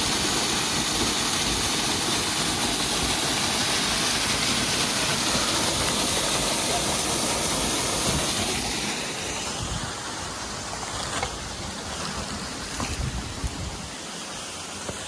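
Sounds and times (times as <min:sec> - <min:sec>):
waterfall splashing into pool: 0:00.0 - 0:15.0.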